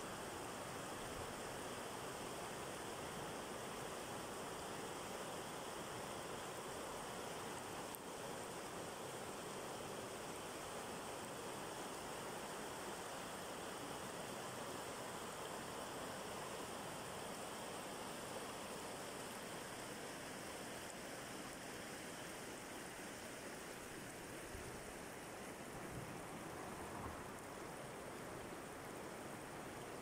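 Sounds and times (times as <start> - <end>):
river babbling over stones: 0.1 - 30.0.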